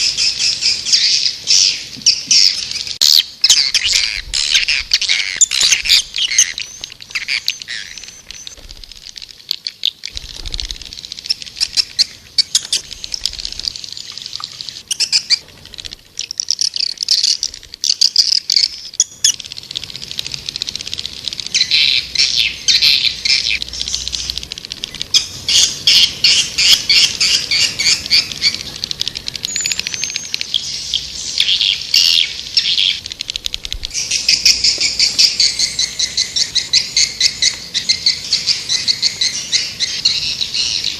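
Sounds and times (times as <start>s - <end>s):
high chirping twitters: 0.0s - 40.9s.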